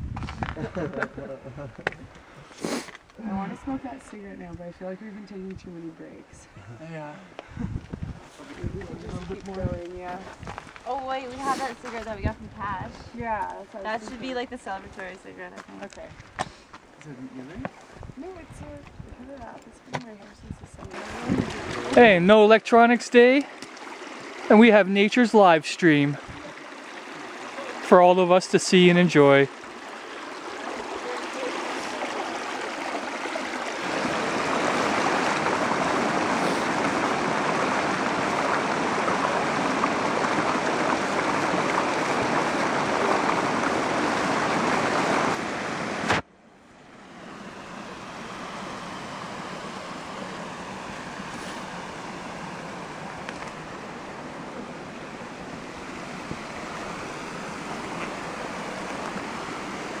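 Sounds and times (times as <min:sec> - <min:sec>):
stream rushing water: 0:08.2 - 0:18.7, 0:20.9 - 1:00.0.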